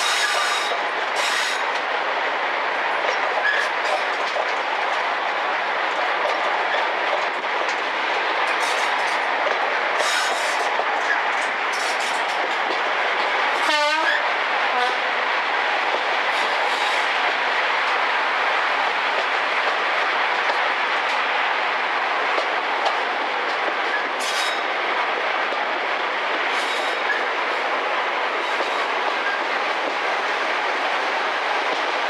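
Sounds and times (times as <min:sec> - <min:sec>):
train and wind rushing: 0:00.0 - 0:32.0.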